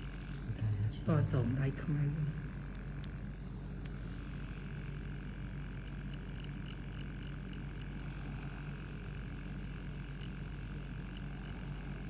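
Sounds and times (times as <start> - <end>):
tattoo machine buzzing: 0.0 - 12.0.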